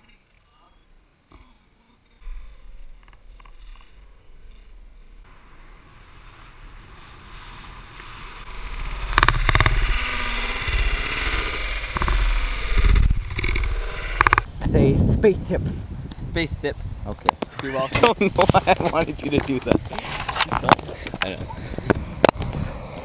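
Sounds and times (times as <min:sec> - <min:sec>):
longboard wheels rolling on asphalt: 0:02.0 - 0:23.0
wind buffeting microphone: 0:02.2 - 0:23.0.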